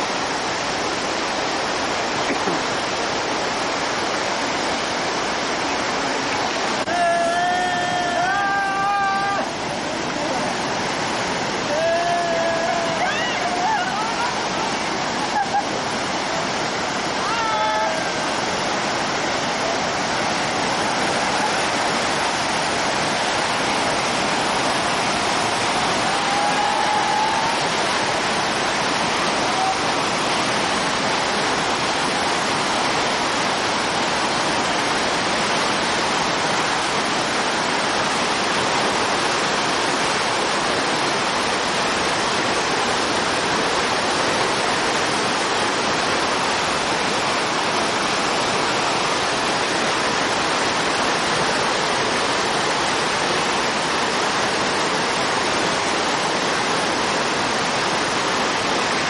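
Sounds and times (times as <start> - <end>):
river rapids rushing: 0.0 - 59.0.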